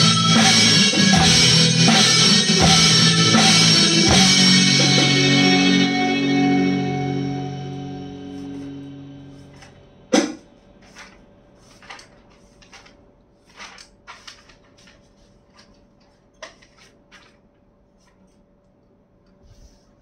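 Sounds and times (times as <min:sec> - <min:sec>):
sheet music rustling: 0:00.0 - 0:06.4, 0:07.1 - 0:09.8, 0:10.7 - 0:18.4.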